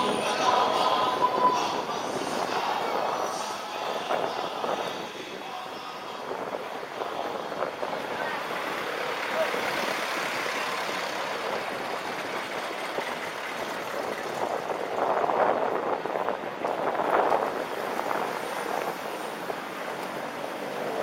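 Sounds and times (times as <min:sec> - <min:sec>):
street traffic: 0:00.0 - 0:21.0
wind noise: 0:00.0 - 0:21.0.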